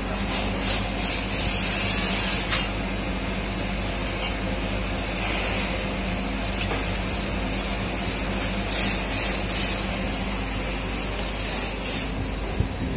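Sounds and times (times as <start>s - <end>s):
welding arc hissing: 0.0s - 12.8s.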